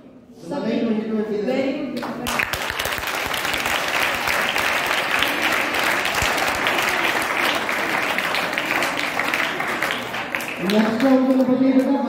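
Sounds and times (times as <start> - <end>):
children applauding: 2.2 - 11.9.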